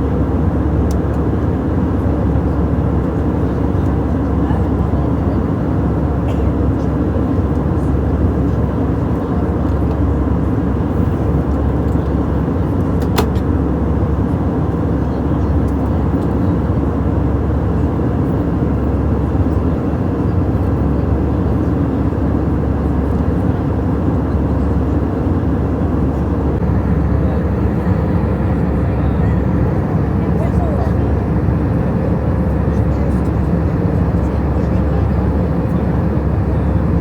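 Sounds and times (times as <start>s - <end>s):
airliner cabin engine rumble: 0.0s - 37.0s.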